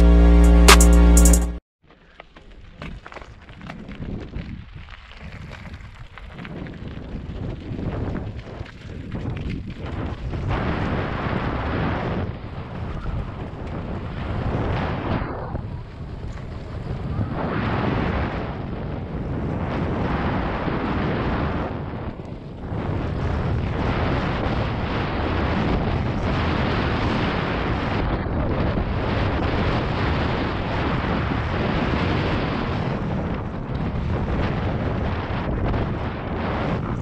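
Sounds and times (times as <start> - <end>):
bike tyres rumbling over gravel: 1.8 - 37.0
wind rushing over microphone: 3.5 - 37.0.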